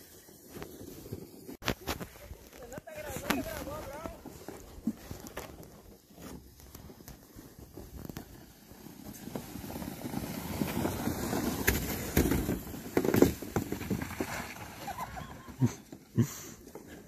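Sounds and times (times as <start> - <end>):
plastic sled scraping over snow: 0.0 - 17.0.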